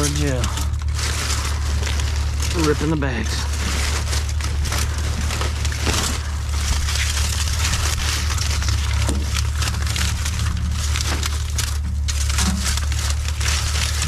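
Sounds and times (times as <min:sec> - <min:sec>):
plastic bags crinkling and tearing: 0:00.0 - 0:14.0
steady low rumble: 0:00.0 - 0:14.0.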